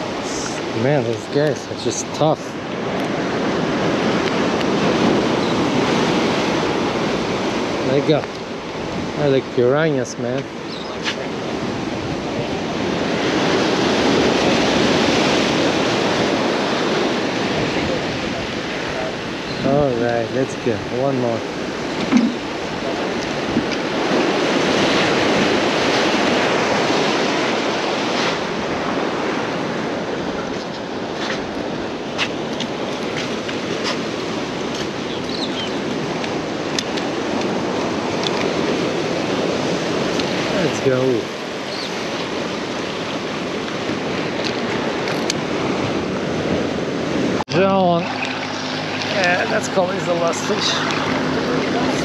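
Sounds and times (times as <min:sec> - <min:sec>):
surf: 0:00.0 - 0:52.0
wind: 0:00.0 - 0:52.0.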